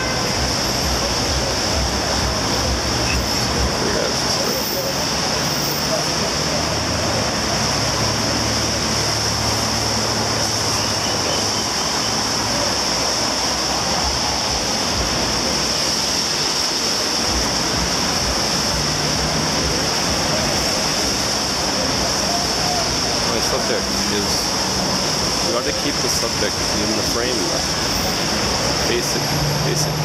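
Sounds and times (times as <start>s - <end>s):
low vehicle engine hum: 0.0s - 30.0s
rain: 0.0s - 30.0s
tyres on wet pavement: 0.0s - 30.0s.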